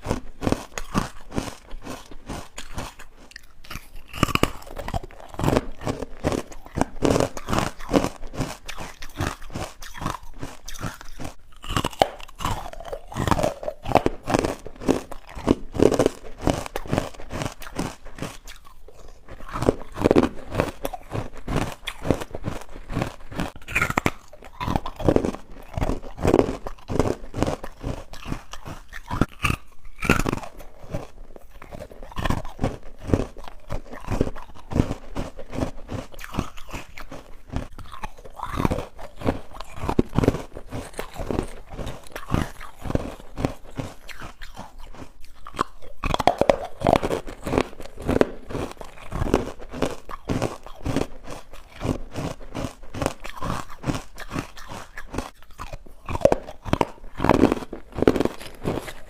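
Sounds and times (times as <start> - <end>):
person crunching on food: 0.0 - 59.0.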